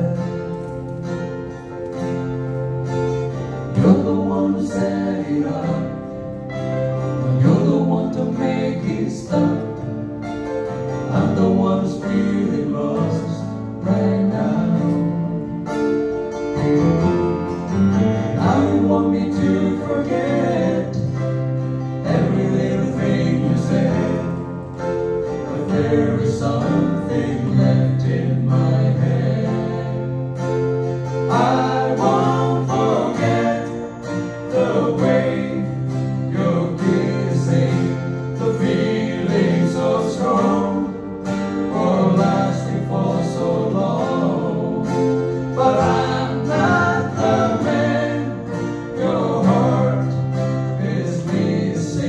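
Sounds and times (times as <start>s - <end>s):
keyboard playing: 0.0s - 51.8s
acoustic guitars: 0.0s - 52.0s.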